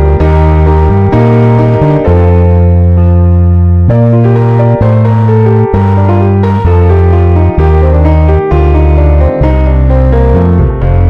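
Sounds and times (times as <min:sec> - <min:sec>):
music with low sustained chords: 0:00.0 - 0:11.0.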